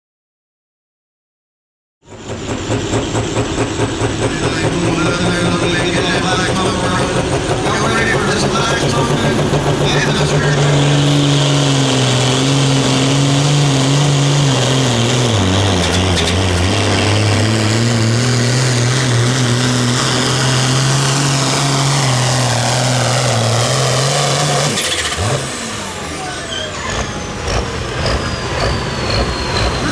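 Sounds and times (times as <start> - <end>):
engine running hard at high revs: 2.1 - 29.9.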